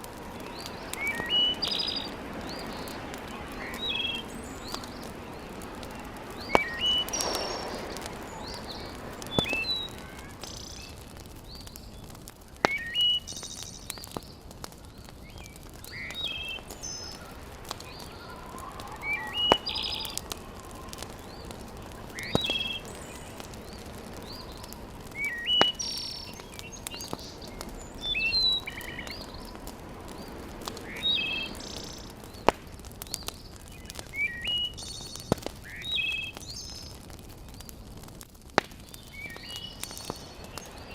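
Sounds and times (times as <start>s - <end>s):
birds chirping: 0.0s - 40.9s
low steady hiss: 0.0s - 40.9s
sharp pops: 0.0s - 40.9s.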